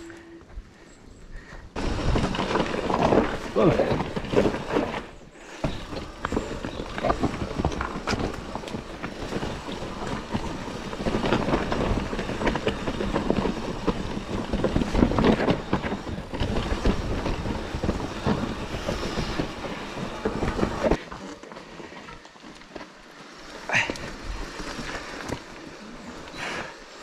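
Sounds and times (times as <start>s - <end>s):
mountain bike rattling over rocks: 1.4s - 27.0s.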